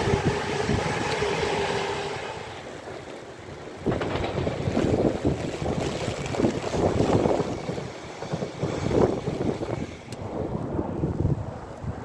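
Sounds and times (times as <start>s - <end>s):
train passing: 0.0s - 11.7s
wind buffeting microphone: 0.0s - 12.0s.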